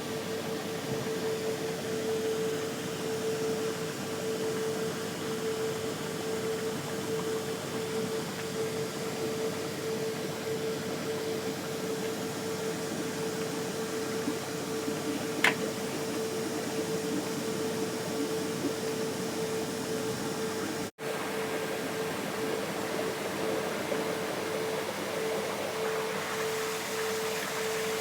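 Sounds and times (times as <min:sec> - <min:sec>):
electric air blowers humming: 0:00.0 - 0:28.0.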